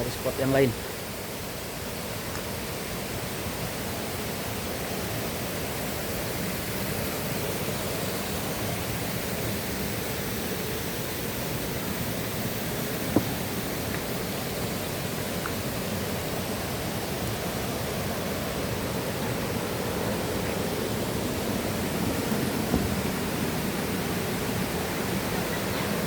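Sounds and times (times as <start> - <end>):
river and waterfall rushing: 0.0 - 26.0.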